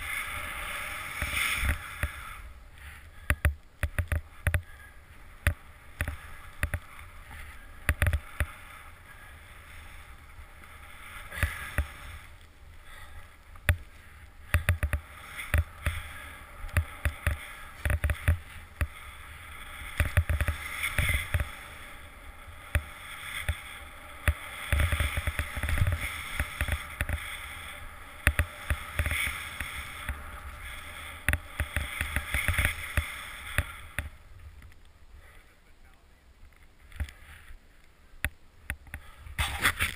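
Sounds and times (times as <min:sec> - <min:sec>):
snowboard carving over snow: 0:00.0 - 0:34.6, 0:38.8 - 0:39.9.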